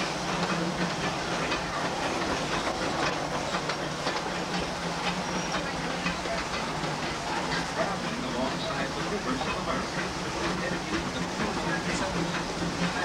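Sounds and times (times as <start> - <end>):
train car rumble and hiss: 0.0 - 13.0.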